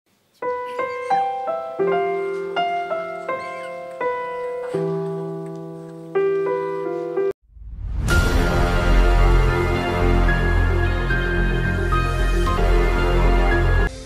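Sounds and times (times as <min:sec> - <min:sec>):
slow piano melody: 0:00.3 - 0:07.4, 0:08.1 - 0:14.0.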